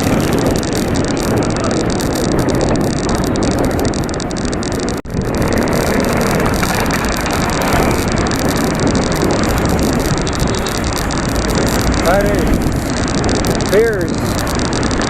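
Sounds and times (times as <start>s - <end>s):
passing traffic: 0.0s - 15.0s
wind on microphone: 0.0s - 15.0s.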